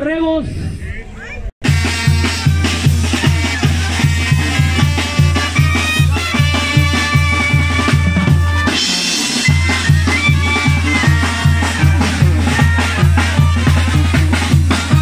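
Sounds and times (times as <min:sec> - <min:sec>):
bass drum beat: 0:01.6 - 0:15.0
trumpets and clarinets: 0:01.6 - 0:15.0.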